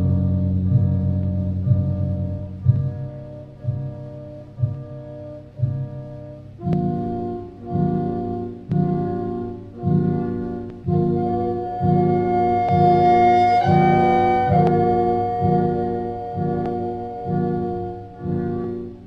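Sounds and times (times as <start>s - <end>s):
instrumental music with chords: 0.0s - 19.0s.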